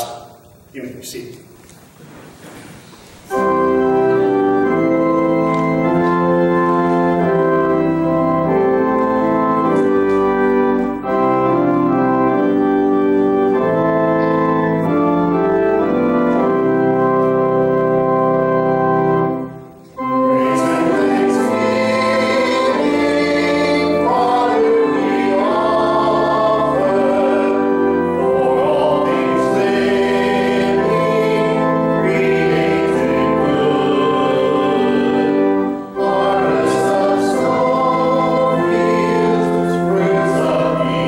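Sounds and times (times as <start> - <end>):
organ playing sustained chords: 0.0 - 41.0.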